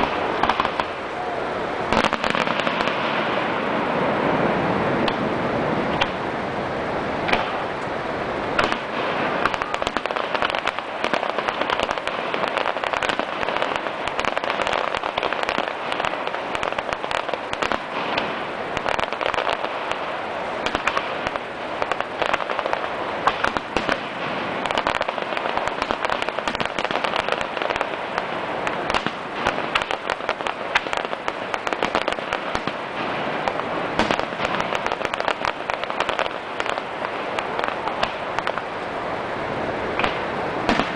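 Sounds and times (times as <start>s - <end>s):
fireworks popping and crackling: 0.0s - 40.9s
steady rushing noise: 0.0s - 40.9s.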